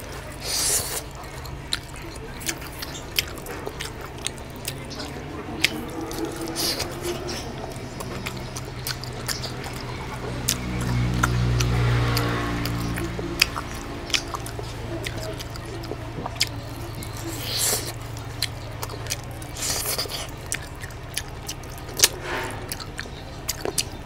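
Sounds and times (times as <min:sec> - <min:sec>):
wet chewing and lip-smacking: 0:00.0 - 0:24.0.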